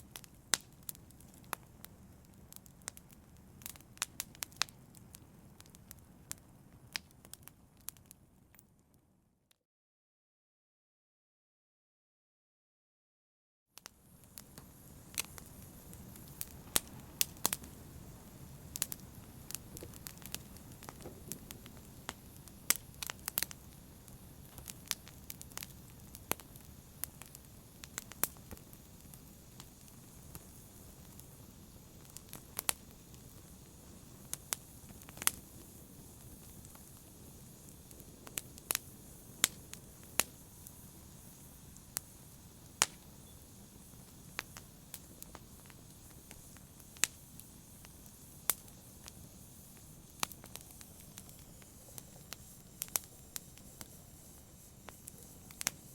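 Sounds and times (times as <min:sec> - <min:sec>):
wood fire crackling: 0:00.0 - 0:08.6, 0:13.8 - 0:55.9
soft hiss of burning: 0:00.0 - 0:09.2, 0:13.8 - 0:55.9.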